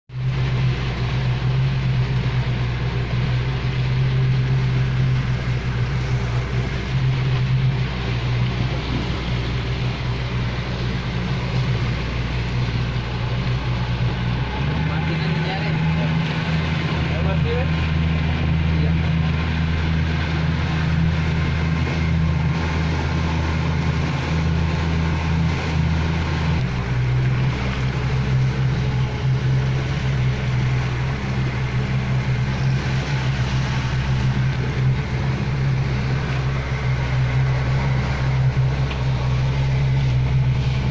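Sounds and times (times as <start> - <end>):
motorboat engine humming: 0.1 - 40.9
wind and water noise: 0.1 - 40.9.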